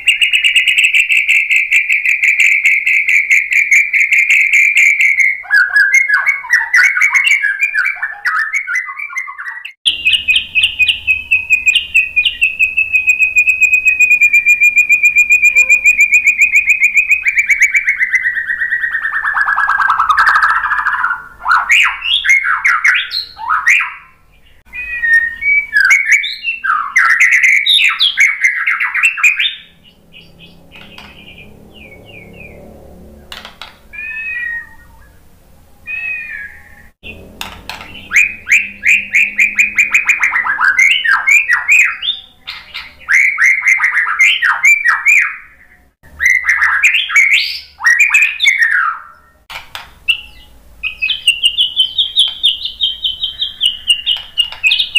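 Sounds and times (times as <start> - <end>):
bird singing whistled notes: 0.0 - 32.6, 35.9 - 49.4, 50.1 - 54.9.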